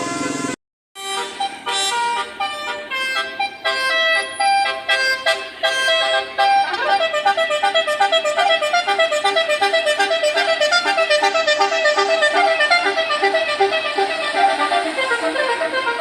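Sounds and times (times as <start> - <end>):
musical vehicle horn: 0.0 - 16.0.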